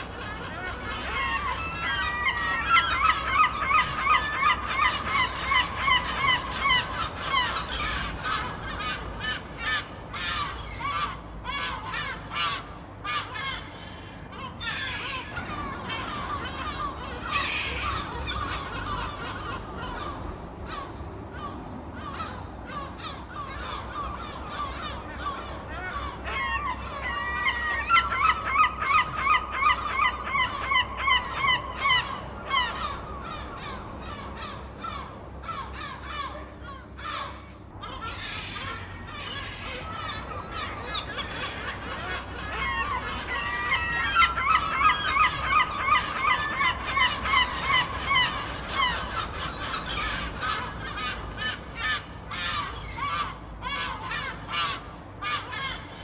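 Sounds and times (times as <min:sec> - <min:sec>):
seagulls squawking: 0:00.0 - 0:56.0.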